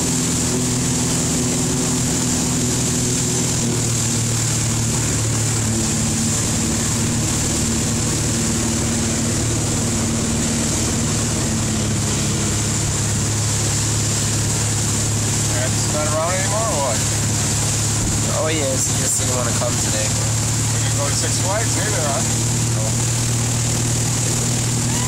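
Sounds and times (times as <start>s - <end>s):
motorboat engine running: 0.0s - 25.0s
rushing wake water: 0.0s - 25.0s
wind: 0.0s - 25.0s.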